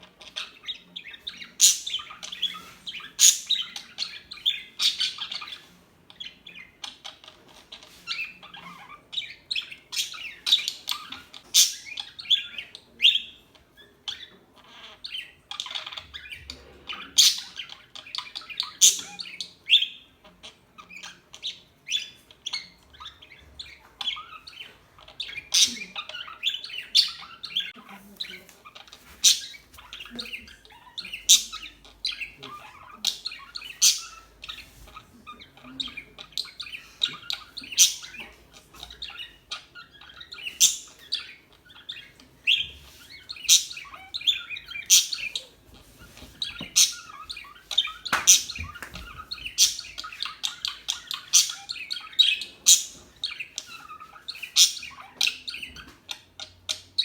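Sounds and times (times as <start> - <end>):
budgerigars chirping: 0.0 - 57.0.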